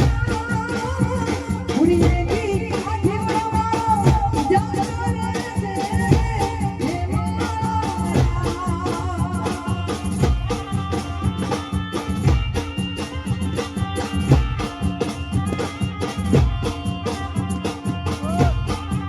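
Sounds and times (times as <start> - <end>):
percussion beat: 0.0 - 19.0.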